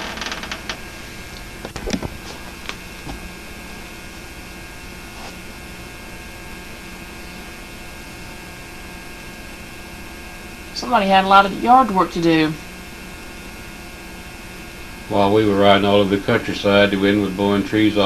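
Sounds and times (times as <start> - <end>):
mains hum and hiss: 0.0 - 18.0.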